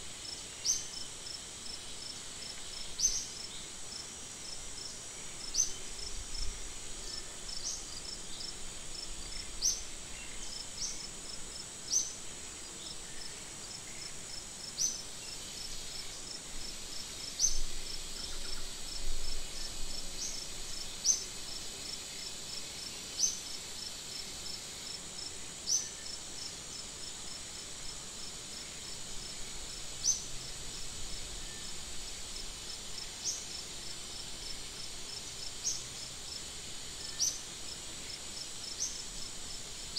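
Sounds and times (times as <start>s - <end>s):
insect chorus with pulsing trill: 0.2s - 39.9s.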